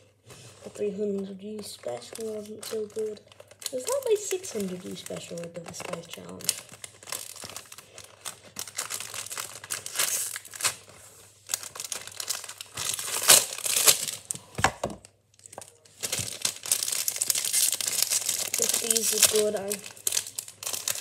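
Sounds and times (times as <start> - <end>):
packaging crinkling and tearing: 0.3 - 21.0.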